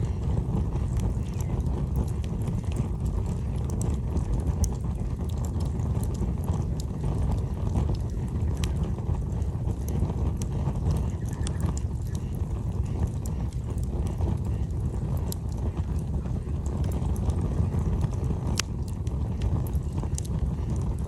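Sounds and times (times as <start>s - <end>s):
campfire crackling and popping: 0.0s - 21.0s
steady low rumble: 0.0s - 21.0s.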